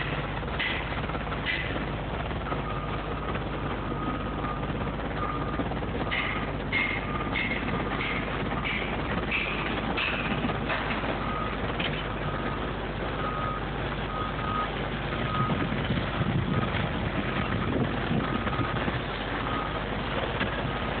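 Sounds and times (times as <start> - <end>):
machinery rumble: 0.0 - 21.0.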